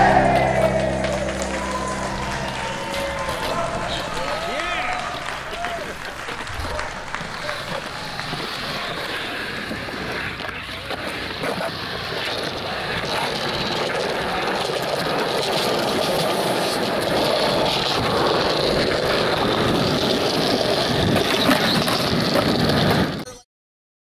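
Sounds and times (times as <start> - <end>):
skateboard wheels rolling on concrete: 0.0 - 23.2.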